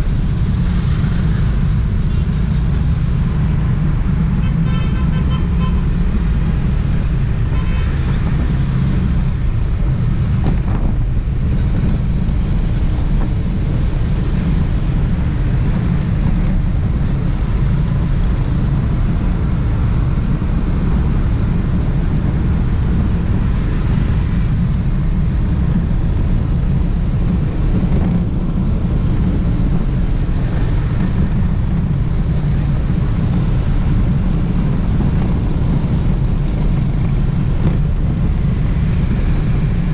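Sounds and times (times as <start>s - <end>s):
motorbike and truck traffic: 0.0s - 39.9s
wind rumble on microphone: 0.0s - 39.9s.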